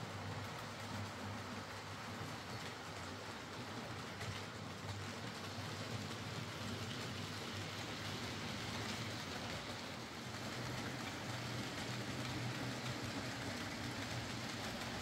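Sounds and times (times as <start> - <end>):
model train motor hum: 0.0 - 15.0
model wheels rolling on rails: 0.0 - 15.0.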